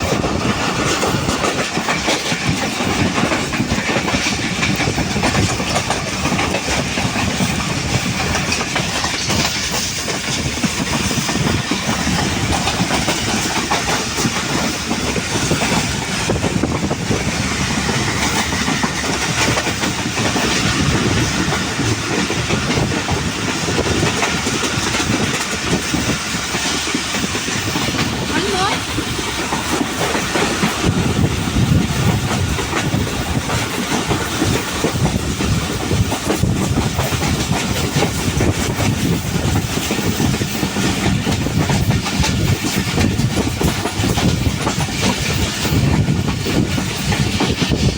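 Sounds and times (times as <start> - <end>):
train rumble: 0.0 - 47.9
wheels clattering over rails: 0.0 - 47.9.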